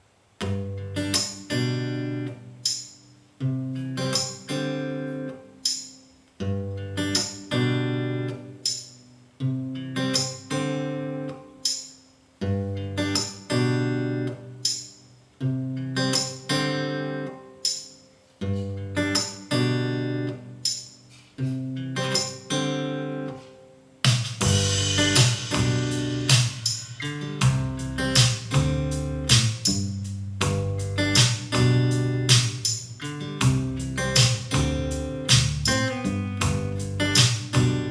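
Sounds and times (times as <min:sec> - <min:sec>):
strummed acoustic guitar: 0:00.0 - 0:37.9.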